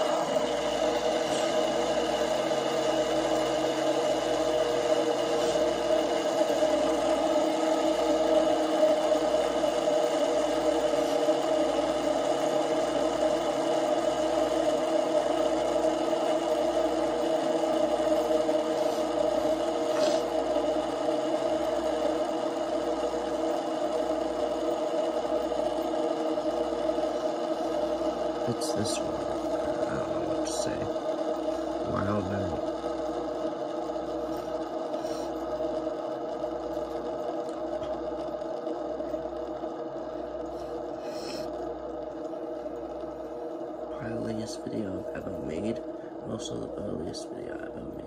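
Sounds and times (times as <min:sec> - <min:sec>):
fidget spinners whirring: 0:00.0 - 0:48.0.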